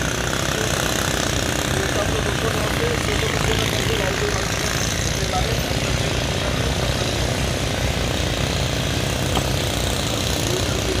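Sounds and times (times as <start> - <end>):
construction machinery drone: 0.0 - 11.0.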